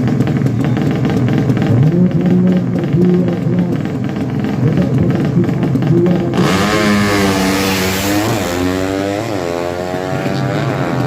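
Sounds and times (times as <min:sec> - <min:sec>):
motorcycle engine revving hard: 0:00.0 - 0:11.0
steady engine drone: 0:00.0 - 0:11.0.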